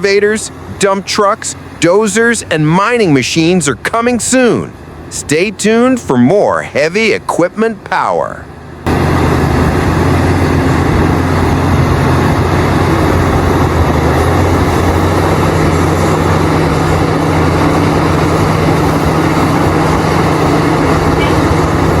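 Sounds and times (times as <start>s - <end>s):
heavy diesel engines droning: 0.0s - 22.0s.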